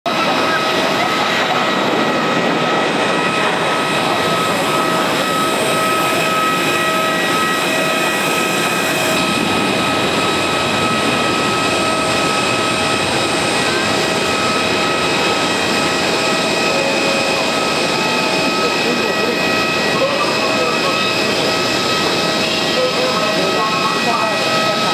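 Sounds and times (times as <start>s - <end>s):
jet engine noise with whine: 0.1s - 24.9s.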